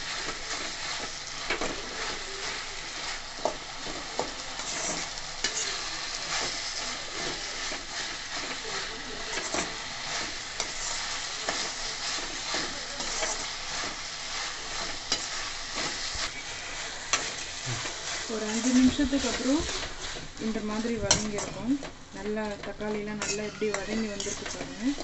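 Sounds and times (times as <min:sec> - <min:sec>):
vegetables sizzling in oil: 0:00.0 - 0:25.0
ladle scraping pan: 0:01.5 - 0:21.7, 0:23.1 - 0:25.0.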